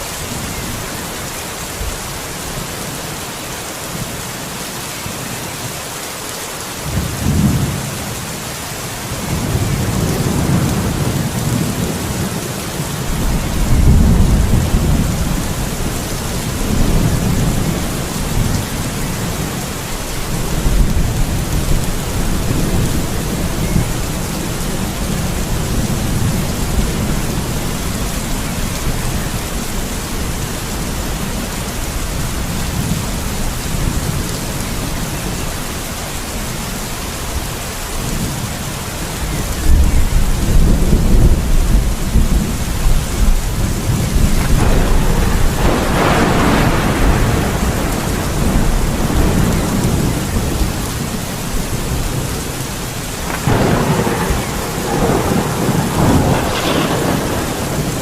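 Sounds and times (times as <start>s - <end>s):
heavy rain hissing: 0.0s - 58.0s
thunder rumbling: 6.8s - 36.7s, 37.3s - 58.0s.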